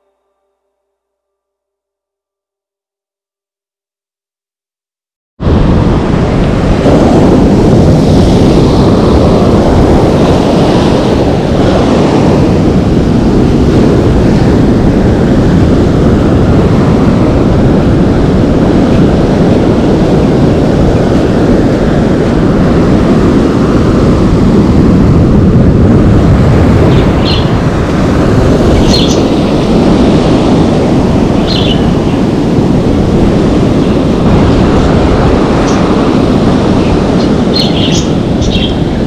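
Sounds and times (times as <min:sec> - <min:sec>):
wind buffeting microphone: 0:05.4 - 0:39.0.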